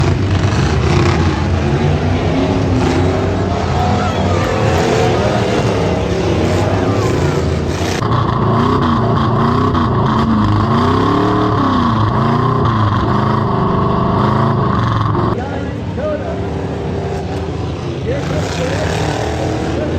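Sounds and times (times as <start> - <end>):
truck engines revving: 0.0 - 19.9.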